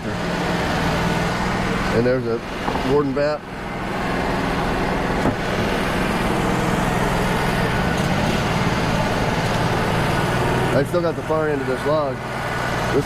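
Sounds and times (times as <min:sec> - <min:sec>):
sawmill engine and band saw droning: 0:00.0 - 0:13.0.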